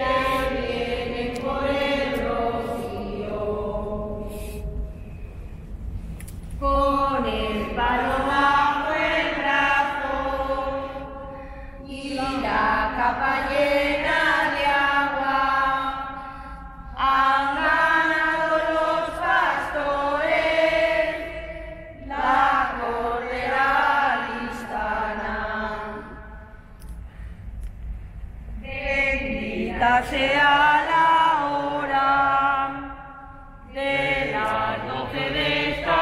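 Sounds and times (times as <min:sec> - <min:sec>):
women singing unaccompanied: 0:00.0 - 0:04.2, 0:06.6 - 0:16.2, 0:17.0 - 0:21.4, 0:22.0 - 0:26.2, 0:28.6 - 0:33.0, 0:33.6 - 0:36.0.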